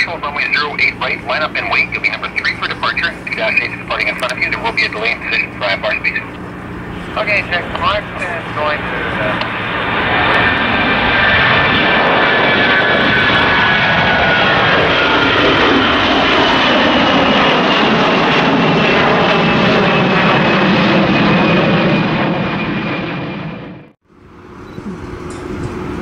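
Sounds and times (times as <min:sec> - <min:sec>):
jet engine whine: 0:00.0 - 0:26.0
jet engines roaring: 0:00.0 - 0:26.0.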